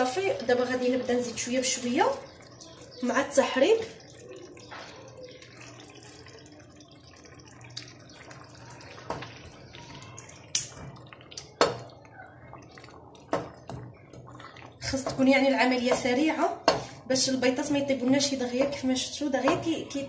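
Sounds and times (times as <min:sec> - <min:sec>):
eggs pouring into pot: 0:00.0 - 0:20.0
wooden spoon stirring thick sauce: 0:00.0 - 0:20.0.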